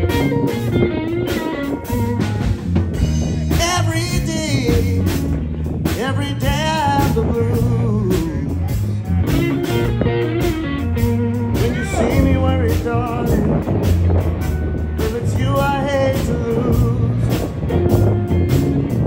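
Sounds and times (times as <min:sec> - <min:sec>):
blues band playing: 0:00.0 - 0:19.0.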